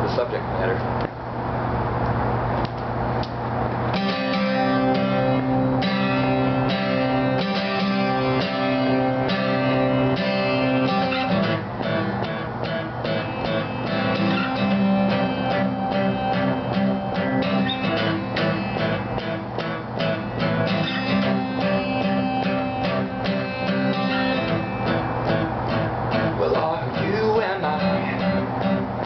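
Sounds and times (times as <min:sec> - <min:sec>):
strummed guitar chords: 0:03.7 - 0:29.0.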